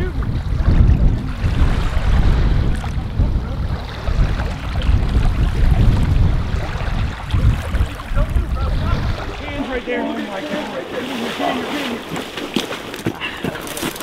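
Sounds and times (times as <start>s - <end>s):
water lapping: 0.0s - 14.0s
wind buffeting microphone: 0.0s - 14.0s.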